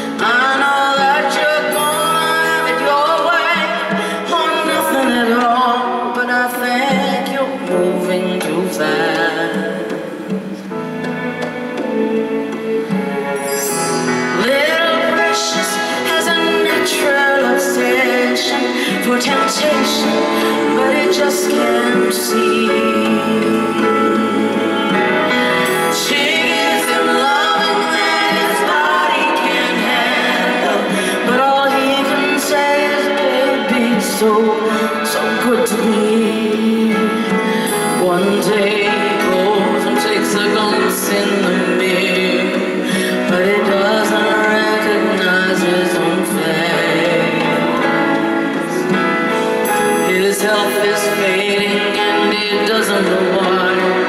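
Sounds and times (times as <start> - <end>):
woman singing pop ballad: 0.0 - 10.7, 13.5 - 54.0
backing vocal harmonies: 0.0 - 54.0
soft band accompaniment: 0.0 - 54.0.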